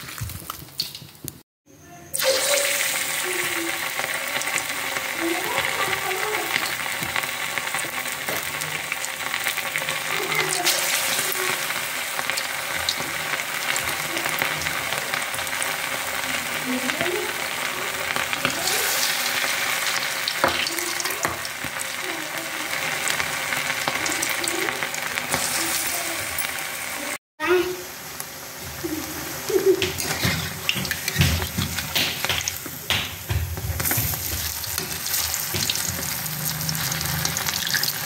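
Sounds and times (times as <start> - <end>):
batter deep-frying in hot oil: 0.0 - 1.4, 2.1 - 38.0.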